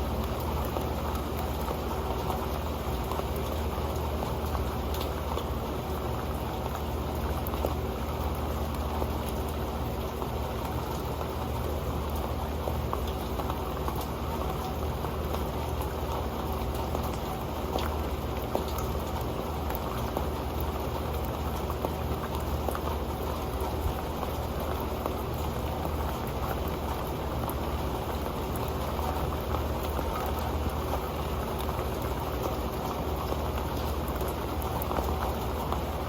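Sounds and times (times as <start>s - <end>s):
rain pattering on metal pan: 0.0s - 36.0s.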